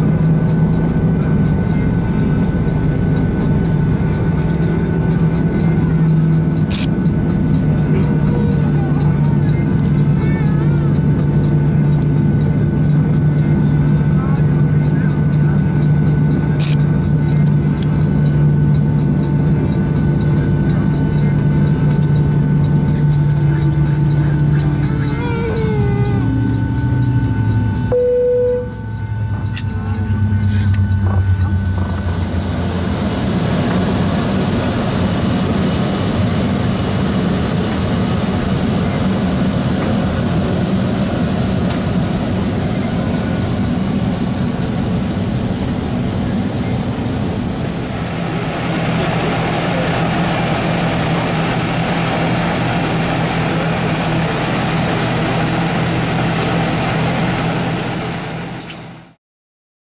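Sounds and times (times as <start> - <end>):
airliner cabin air rush: 0.0 - 59.2
jet engine drone: 0.0 - 59.2.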